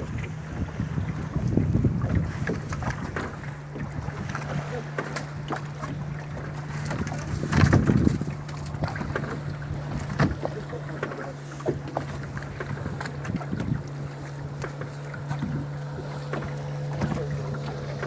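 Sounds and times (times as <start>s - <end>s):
boat motor humming: 0.0s - 18.0s
wind buffeting microphone: 0.0s - 18.0s.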